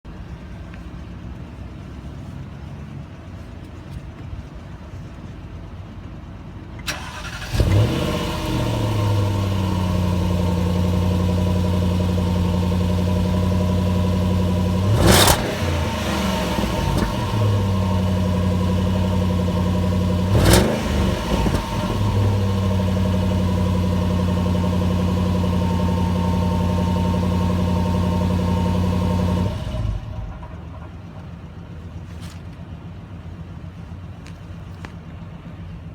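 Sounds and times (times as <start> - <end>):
car engine starting and idling: 5.8 - 35.9
engine throttle blips: 6.8 - 35.9.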